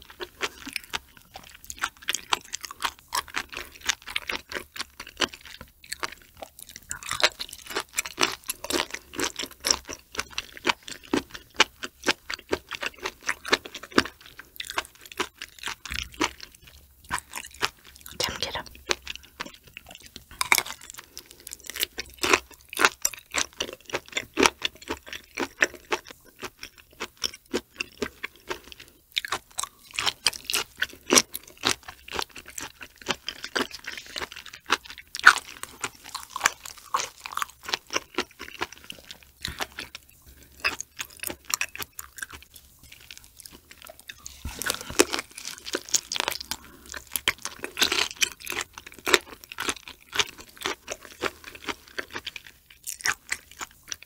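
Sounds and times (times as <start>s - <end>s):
chewing mouth clicks and smacks: 0.0s - 54.0s.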